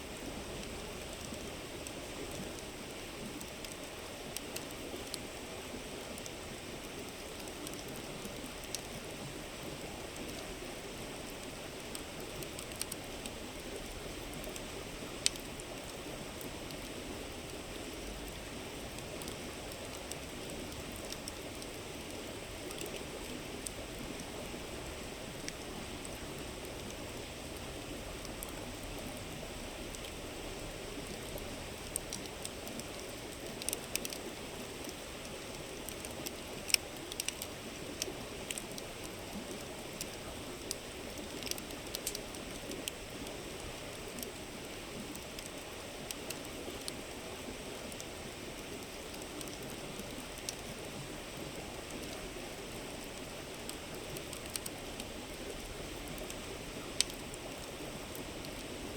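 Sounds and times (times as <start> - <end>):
campfire crackling and popping: 0.1 - 58.8.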